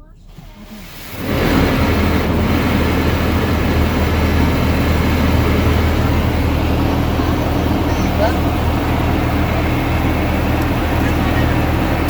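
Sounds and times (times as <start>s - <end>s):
car wash machinery rushing: 0.0s - 12.0s.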